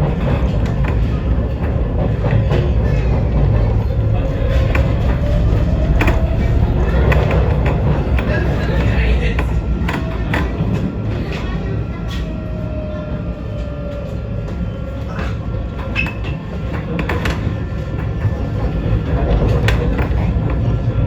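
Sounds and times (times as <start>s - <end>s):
tram rumbling along track: 0.0s - 21.0s.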